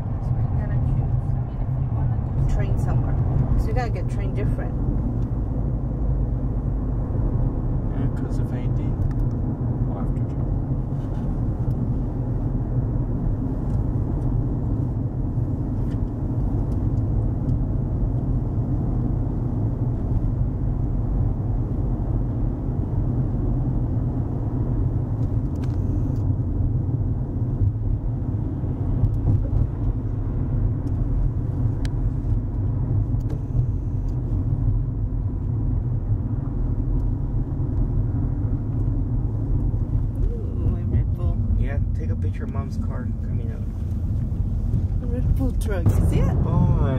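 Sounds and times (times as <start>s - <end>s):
car cabin road rumble: 0.0s - 46.9s.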